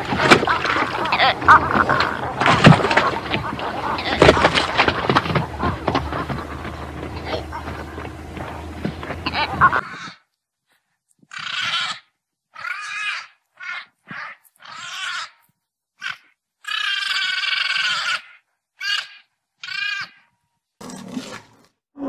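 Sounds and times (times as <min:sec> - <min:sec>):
alpacas calling: 0:00.0 - 0:10.3, 0:11.2 - 0:20.4.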